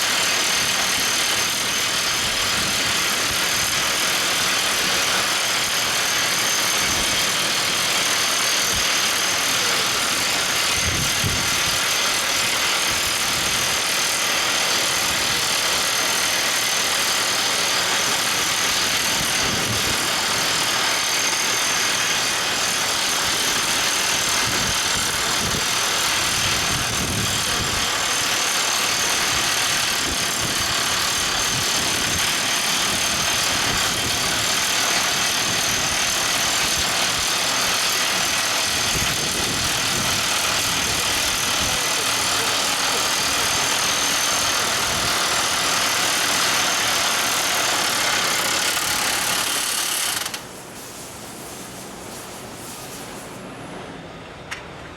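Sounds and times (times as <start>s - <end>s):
drill rig running: 0.0s - 50.6s.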